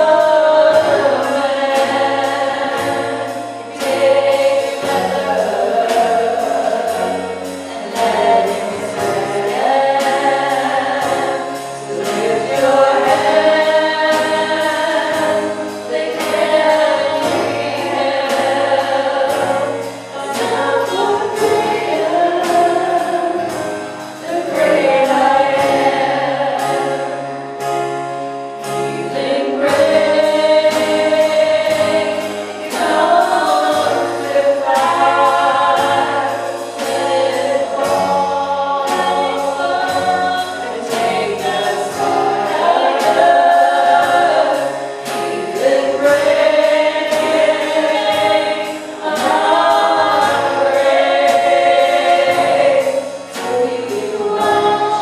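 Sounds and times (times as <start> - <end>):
band with bass and percussion: 0.0 - 55.0
voices singing together: 0.0 - 55.0.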